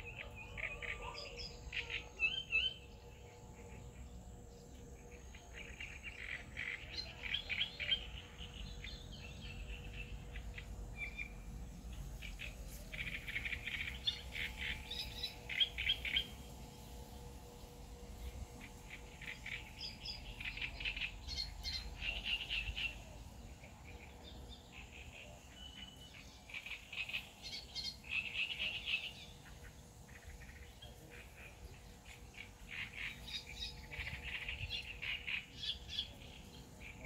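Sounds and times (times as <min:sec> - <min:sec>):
birds chirping: 0:00.0 - 0:37.0
low outdoor rumble: 0:00.0 - 0:37.0.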